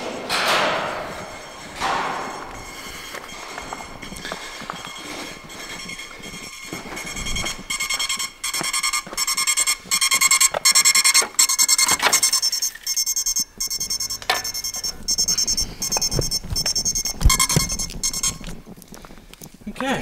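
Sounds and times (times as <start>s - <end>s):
high-pitched beeps: 0.9s - 18.6s.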